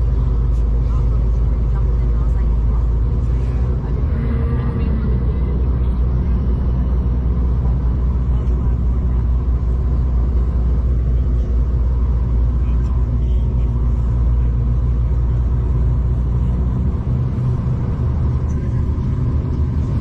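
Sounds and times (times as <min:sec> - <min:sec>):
train rumble from inside carriage: 0:00.0 - 0:20.0.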